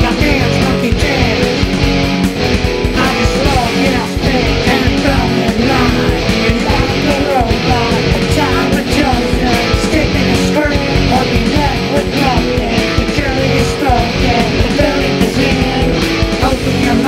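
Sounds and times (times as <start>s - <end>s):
rock band music: 0.0s - 17.0s.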